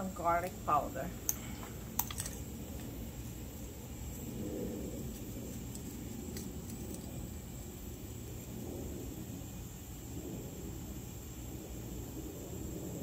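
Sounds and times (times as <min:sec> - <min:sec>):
low rumble of background noise: 0:00.0 - 0:13.0.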